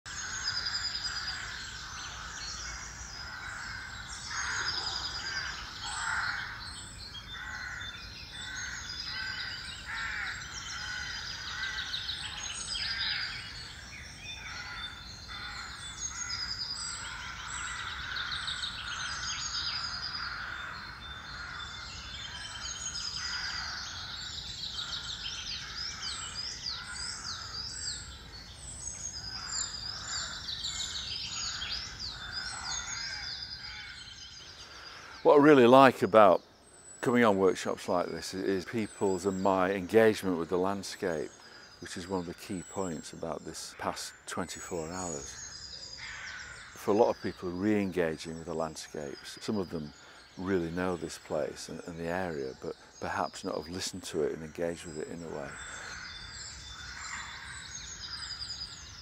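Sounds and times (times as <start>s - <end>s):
wild birds singing and calling: 0.0s - 59.0s.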